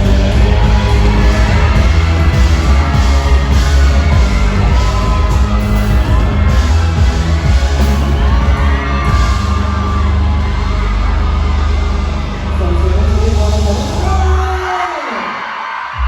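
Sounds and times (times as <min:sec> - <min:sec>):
live band playing: 0:00.0 - 0:14.5
crowd whooping and yelling: 0:00.0 - 0:16.0.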